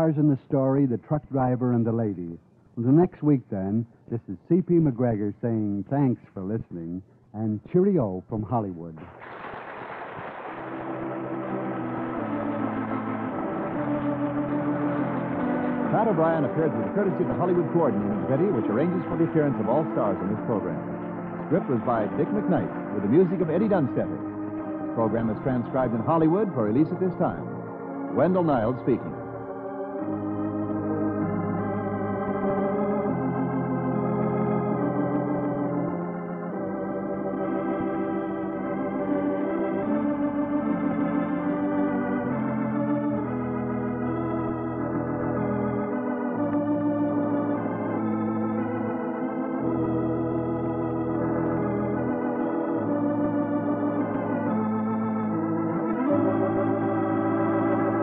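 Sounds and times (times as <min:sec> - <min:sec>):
organ playing slow chords: 0:00.0 - 0:09.0, 0:09.7 - 0:58.0.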